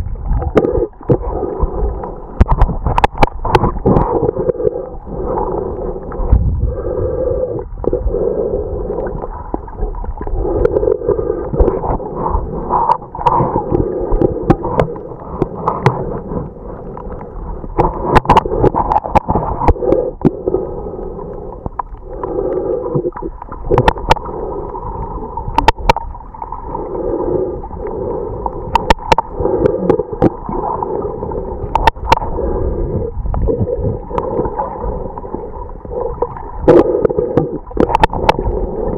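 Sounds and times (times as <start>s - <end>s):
muffled underwater gurgling: 0.0s - 38.9s.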